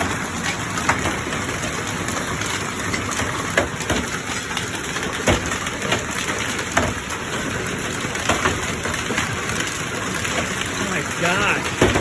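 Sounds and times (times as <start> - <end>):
hail and heavy rain: 0.0 - 12.0
hailstones knocking on hard surfaces: 0.0 - 12.0.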